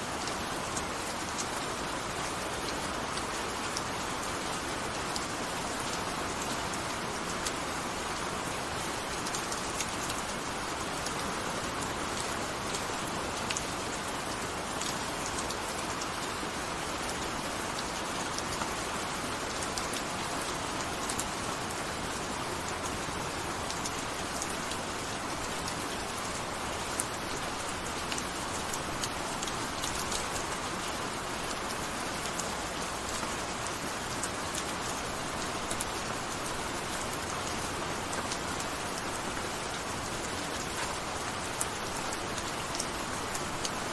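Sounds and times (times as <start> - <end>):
gentle steady rain: 0.0 - 43.9
raindrops ticking on a surface: 0.1 - 43.9.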